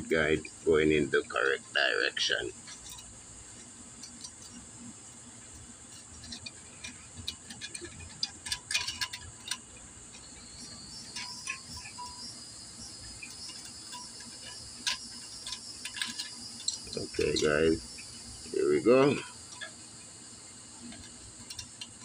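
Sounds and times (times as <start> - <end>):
steady high-pitched chirring: 0.0 - 22.0
light metallic clicks and taps: 2.6 - 4.7, 5.5 - 20.1, 20.8 - 22.0.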